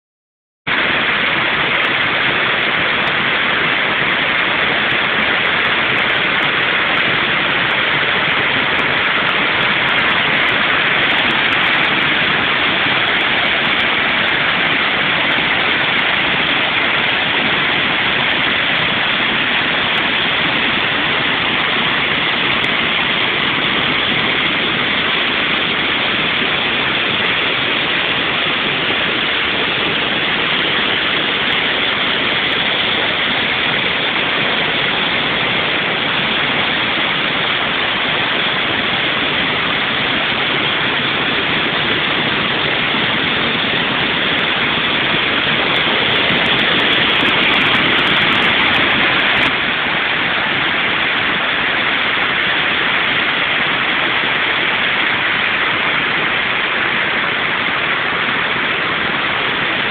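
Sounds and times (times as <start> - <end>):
waterfall rushing over boulders: 0.7 - 59.9.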